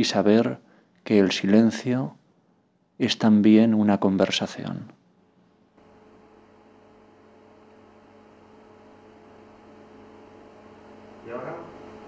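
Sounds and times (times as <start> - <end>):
electrical mains hum with hiss: 0.0 - 12.0.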